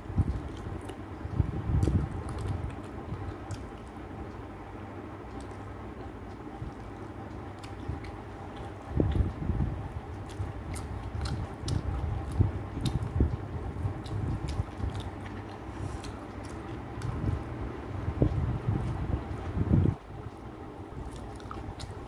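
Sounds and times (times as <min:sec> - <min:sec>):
person chewing: 0:00.2 - 0:04.5, 0:05.2 - 0:22.0.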